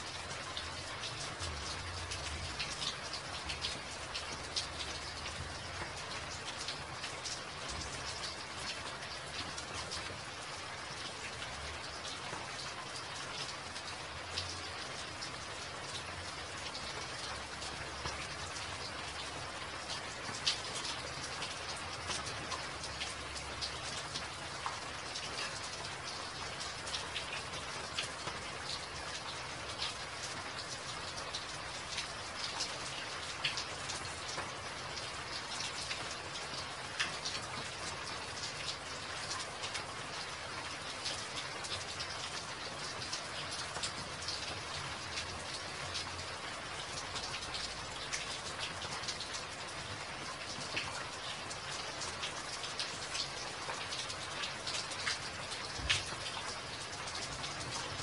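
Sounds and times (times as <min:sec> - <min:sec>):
rain falling on wet walkway: 0:00.0 - 0:58.0.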